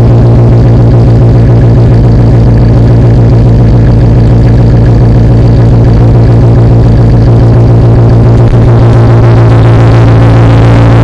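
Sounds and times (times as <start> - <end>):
engine idling with deep exhaust drone: 0.0 - 11.0.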